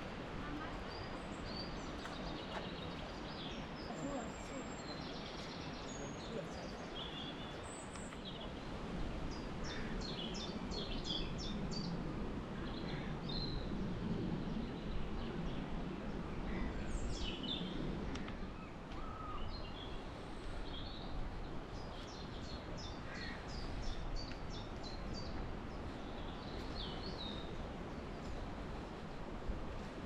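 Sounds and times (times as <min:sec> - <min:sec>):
wild birds singing: 0:00.0 - 0:29.4
low wind rumble: 0:00.0 - 0:30.0.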